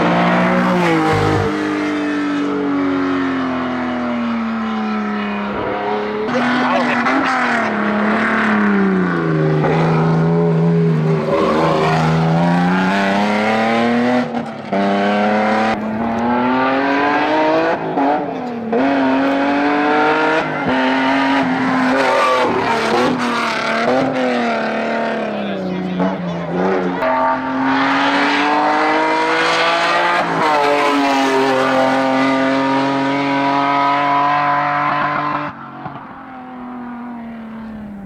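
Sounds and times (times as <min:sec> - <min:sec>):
car engine revving hard: 0:00.0 - 0:38.0.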